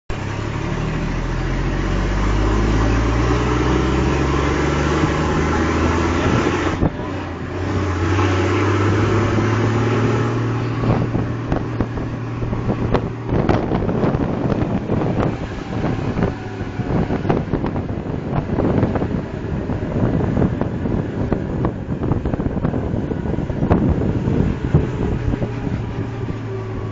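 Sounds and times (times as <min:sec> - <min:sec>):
truck engine running: 0:00.1 - 0:26.9.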